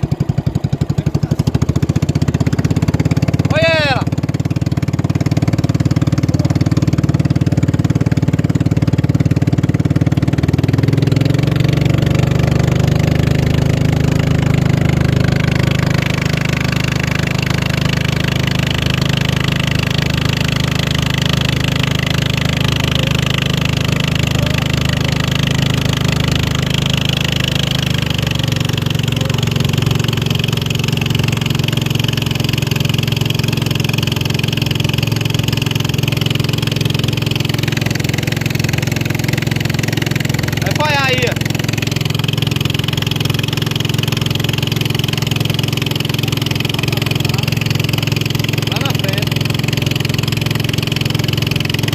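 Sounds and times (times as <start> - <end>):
racing boat engine running: 0.0 - 51.9.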